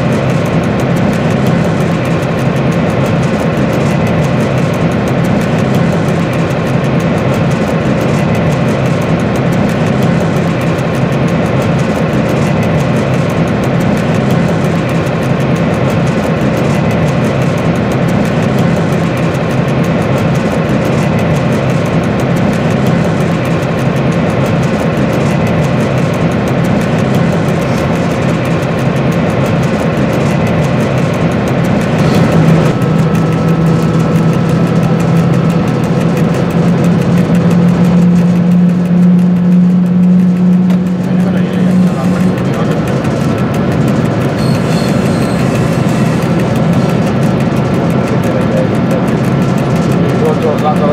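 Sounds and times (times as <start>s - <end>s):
locomotive engine drone: 0.0s - 50.9s
steady high whine: 0.0s - 50.9s.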